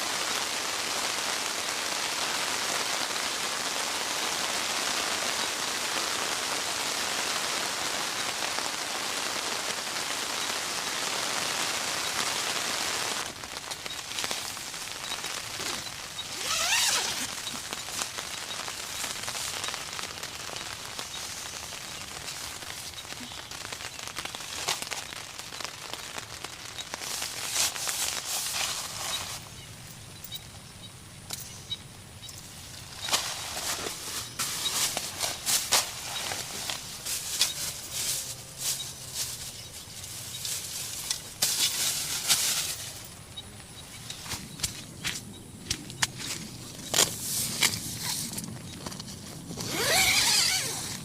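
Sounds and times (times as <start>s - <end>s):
heavy rain falling: 0.0s - 31.2s, 32.0s - 51.0s.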